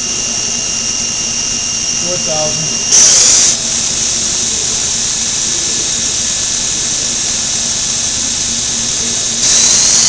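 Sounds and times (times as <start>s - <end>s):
machine spindle high-pitched whine: 0.0s - 10.0s.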